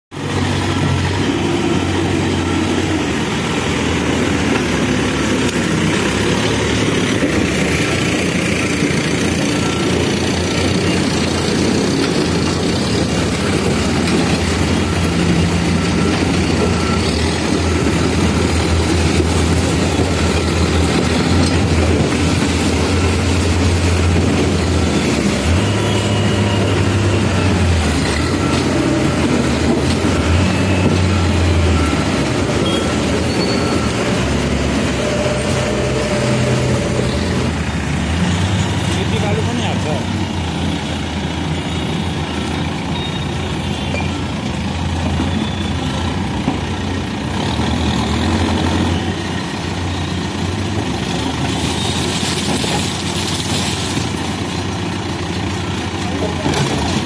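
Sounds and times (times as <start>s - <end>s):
diesel engine humming: 0.1s - 57.0s.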